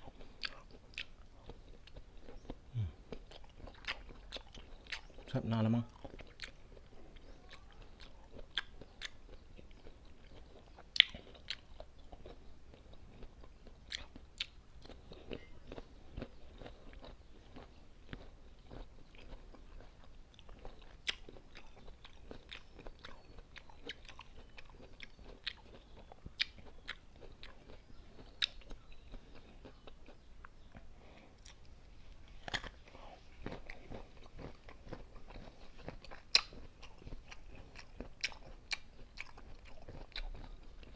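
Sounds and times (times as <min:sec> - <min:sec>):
crunchy chewing and bites: 0:00.0 - 0:40.9.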